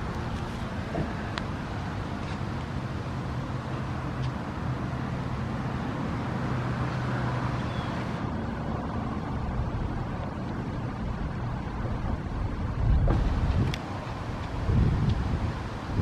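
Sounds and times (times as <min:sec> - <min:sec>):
low engine hum: 0:00.0 - 0:16.0
road traffic noise: 0:00.0 - 0:16.0.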